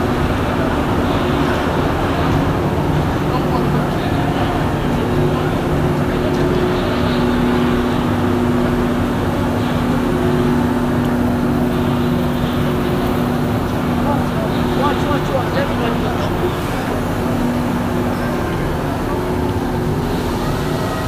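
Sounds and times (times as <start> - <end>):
machinery humming drone: 0.0 - 21.0.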